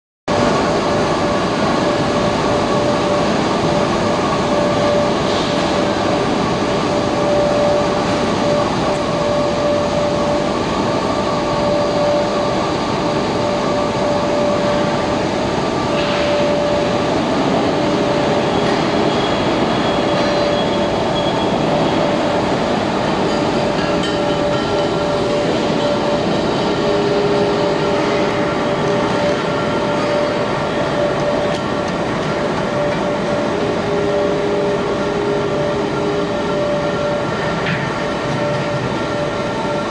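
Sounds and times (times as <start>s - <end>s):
constant motor whine: 0.3s - 39.9s
steel rolling mill din: 0.3s - 39.9s.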